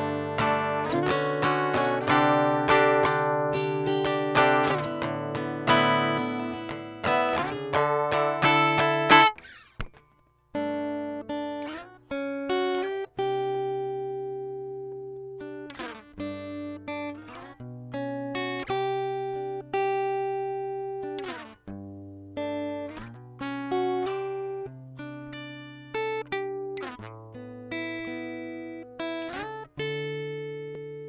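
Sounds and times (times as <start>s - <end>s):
guitar picking a melody: 0.0s - 31.0s.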